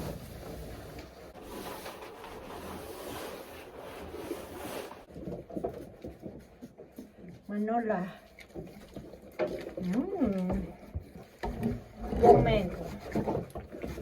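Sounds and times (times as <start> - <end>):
faint rustling and knocks: 0.0 - 14.0.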